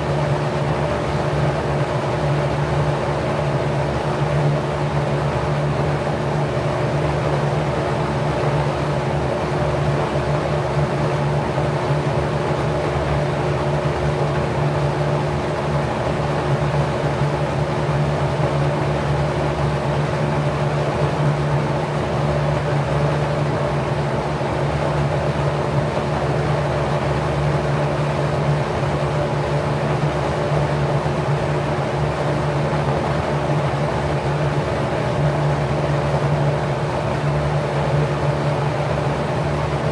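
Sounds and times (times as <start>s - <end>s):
fan motor hum: 0.0s - 39.9s.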